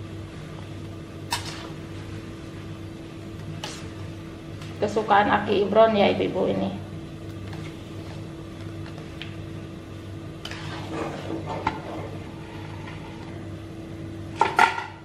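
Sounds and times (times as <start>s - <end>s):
soup boiling in pot: 0.0s - 4.8s, 6.9s - 15.0s
steady low hum: 0.0s - 15.0s.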